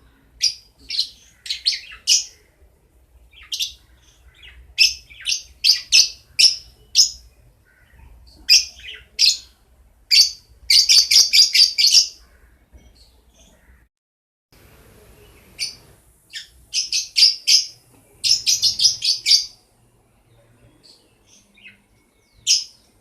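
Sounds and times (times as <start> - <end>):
lovebirds chirping: 0.0 - 13.9, 14.9 - 23.0.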